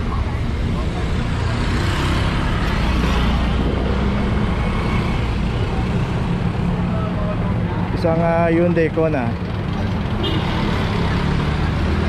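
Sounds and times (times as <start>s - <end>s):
vehicle engines humming: 0.0s - 12.0s.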